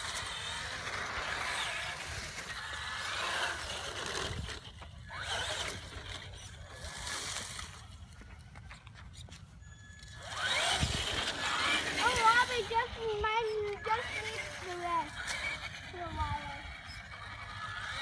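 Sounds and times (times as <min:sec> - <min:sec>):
rc truck motor whine: 0:00.0 - 0:18.0.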